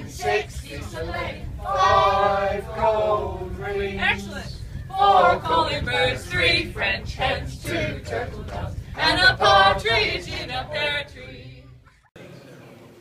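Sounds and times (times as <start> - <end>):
group singing a carol: 0.0 - 11.8
steady low rumble: 0.0 - 12.0.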